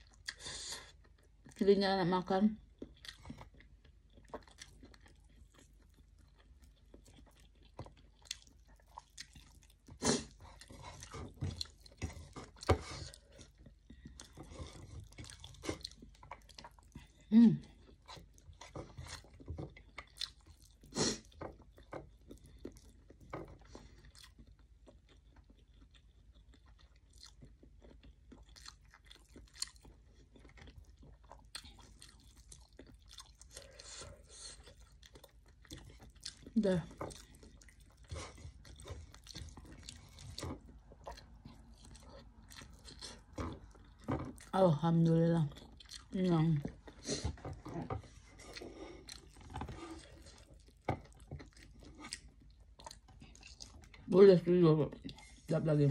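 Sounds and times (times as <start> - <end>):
person chewing with mouth smacks: 0.0 - 1.6, 2.6 - 54.1, 55.0 - 55.5.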